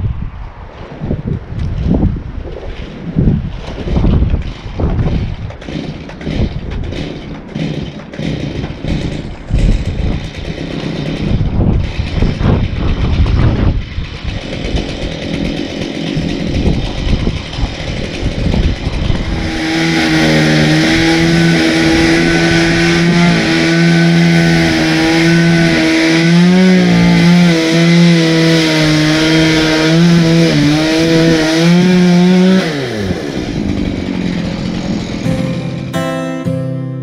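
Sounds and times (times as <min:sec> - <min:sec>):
chainsaw running: 0:03.7 - 0:37.0.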